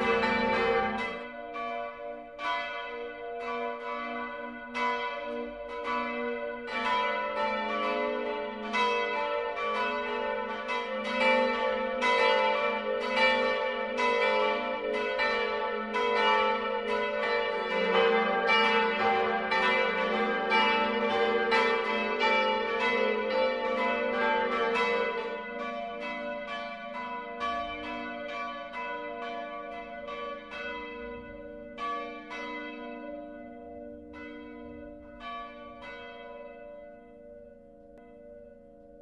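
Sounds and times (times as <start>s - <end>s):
church bells ringing: 0.0s - 39.0s.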